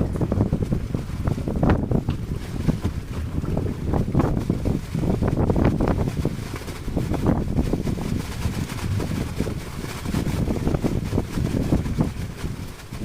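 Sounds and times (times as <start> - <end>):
sea washing around boat: 0.0 - 13.0
wind buffeting microphone: 0.0 - 13.0.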